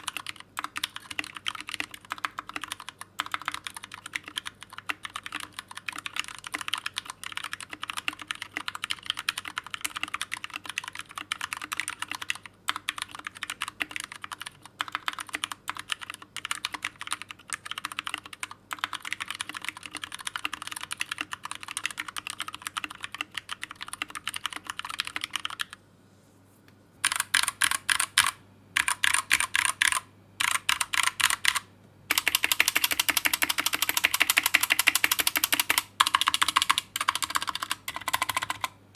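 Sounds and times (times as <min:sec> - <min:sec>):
mechanical keyboard typing: 0:00.0 - 0:25.8, 0:27.0 - 0:38.8.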